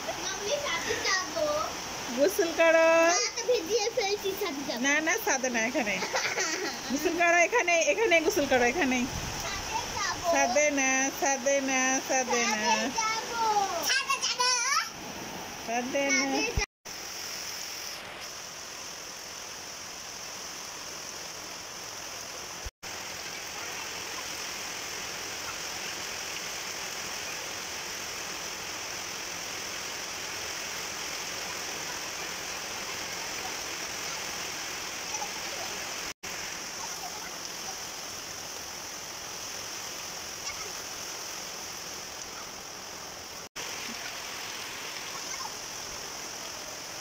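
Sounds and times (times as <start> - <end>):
heavy rain on a flat rooftop: 0.0 - 7.0, 8.0 - 10.6, 12.3 - 15.0, 16.1 - 16.7, 18.0 - 47.0.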